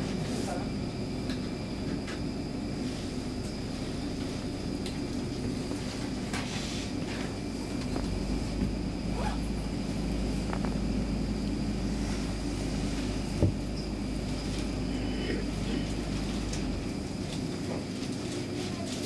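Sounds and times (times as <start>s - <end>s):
faint high whine: 0.0s - 17.8s
subway car humming: 0.0s - 19.0s.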